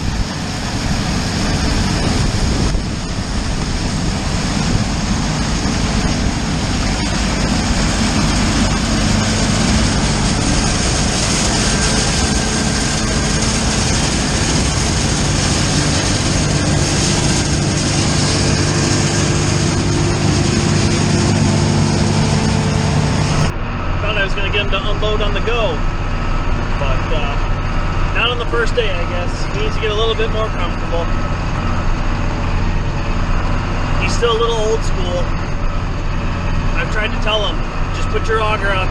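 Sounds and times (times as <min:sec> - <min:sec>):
harvest machinery engine running: 0:00.0 - 0:38.9
loud continuous rushing noise: 0:00.0 - 0:38.9.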